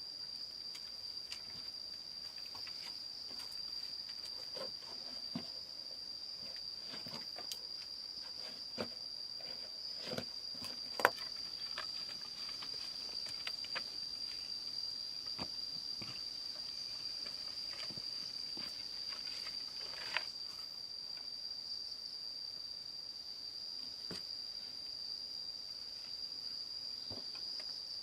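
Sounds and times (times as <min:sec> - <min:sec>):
insect drone: 0:00.0 - 0:28.0.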